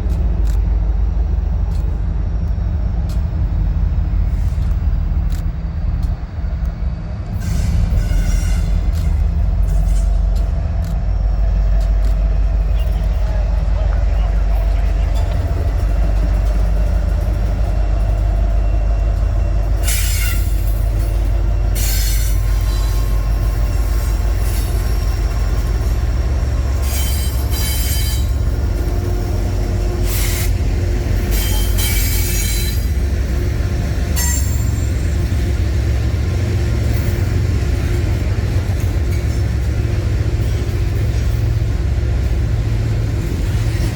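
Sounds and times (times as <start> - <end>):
freight train cars rumbling: 0.0 - 43.9
wheels squealing on rails: 4.1 - 43.9.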